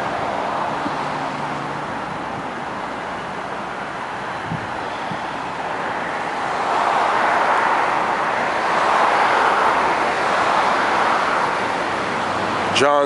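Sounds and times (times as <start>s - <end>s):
vehicle passing on road: 0.0s - 13.0s.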